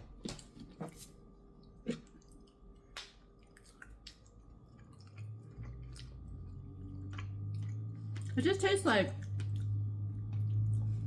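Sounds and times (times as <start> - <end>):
low steady hum: 0.0 - 11.0
chewing and wet smacking: 1.6 - 11.0.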